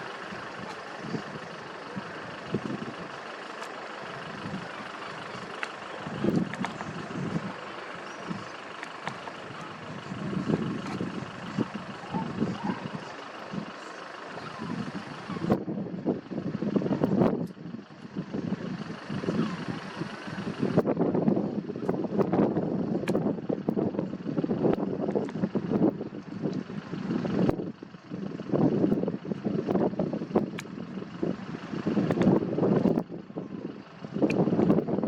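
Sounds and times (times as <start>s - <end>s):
passing road vehicles rumbling: 0.0s - 35.0s.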